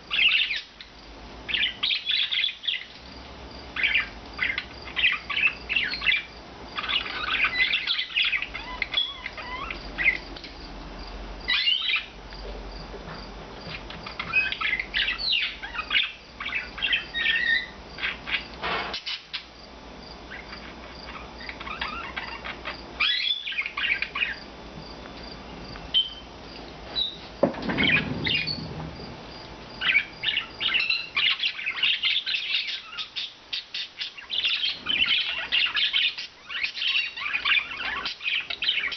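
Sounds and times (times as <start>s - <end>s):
budgerigars chirping and warbling: 0.1s - 0.9s, 1.5s - 3.0s, 3.8s - 10.7s, 11.5s - 12.2s, 13.7s - 19.5s, 20.3s - 24.5s, 25.9s - 26.3s, 27.0s - 28.9s, 29.8s - 38.9s.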